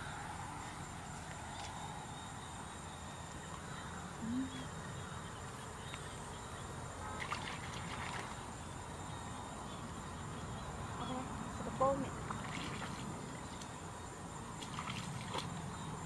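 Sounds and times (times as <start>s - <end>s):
faint high whine: 0.0s - 16.0s
outdoor background hiss: 0.0s - 16.0s.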